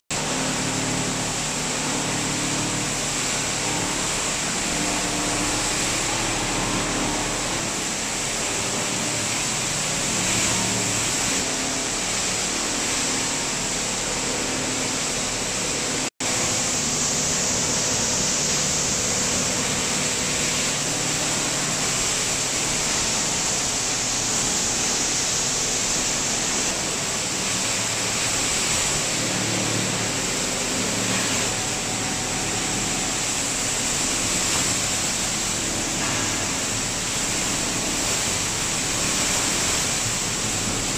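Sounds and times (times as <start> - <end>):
water pouring and splashing: 0.1 - 40.9.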